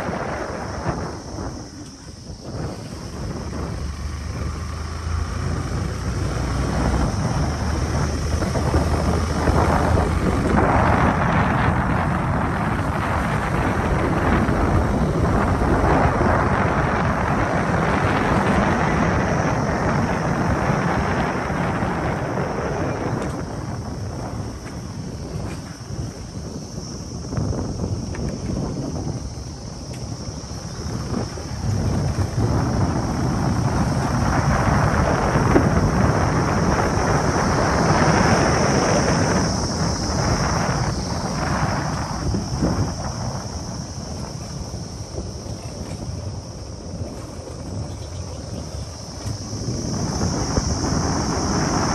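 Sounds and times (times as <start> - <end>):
motorcycle engine and road rumble: 0.0 - 51.9
wind buffeting microphone: 0.0 - 51.9.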